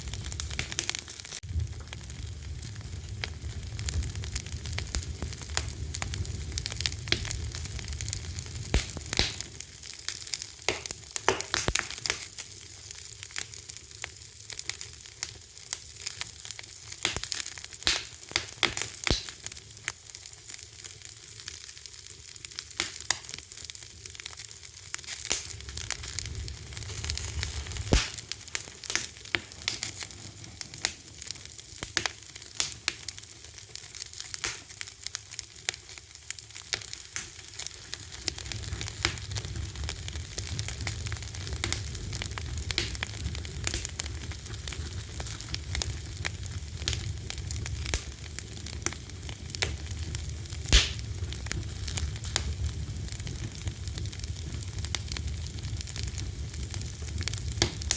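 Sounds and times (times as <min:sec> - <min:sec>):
fire crackling and popping: 0:00.0 - 0:57.9
low rumble of flames: 0:00.0 - 0:57.9.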